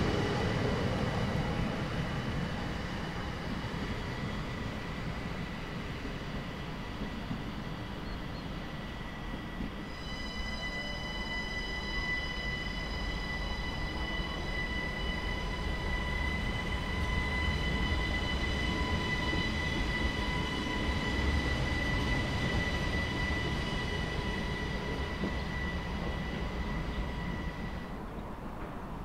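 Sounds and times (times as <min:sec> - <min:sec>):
electric train whine: 0:00.0 - 0:29.0
rail rumble: 0:00.0 - 0:29.0.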